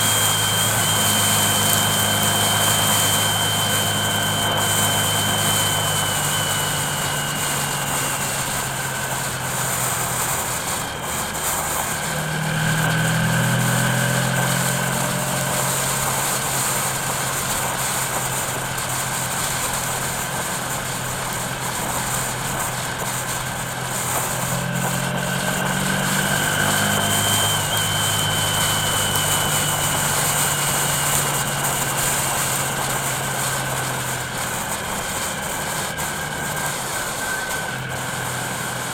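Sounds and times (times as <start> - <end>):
car engine hum: 0.0 - 38.9
road noise: 0.0 - 38.9.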